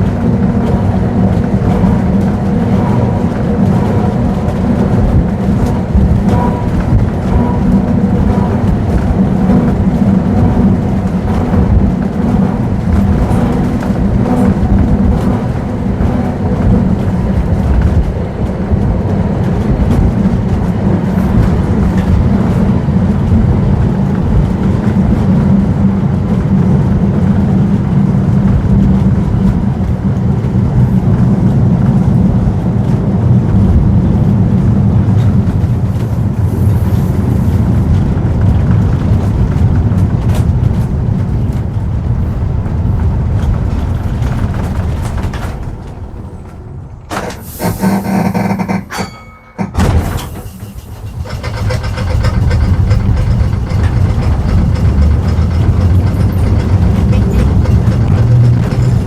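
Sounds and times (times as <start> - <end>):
tram rumbling on rails: 0.0 - 59.0.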